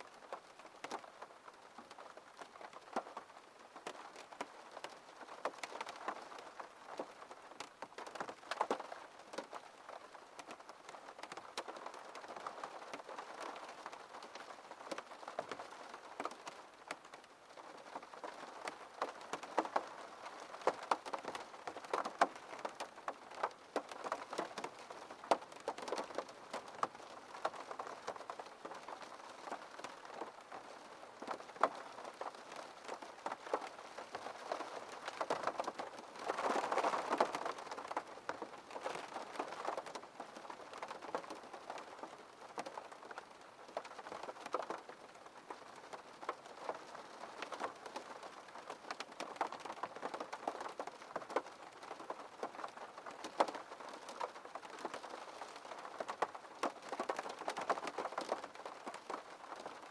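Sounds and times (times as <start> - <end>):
rain on window pane: 0.0 - 59.9.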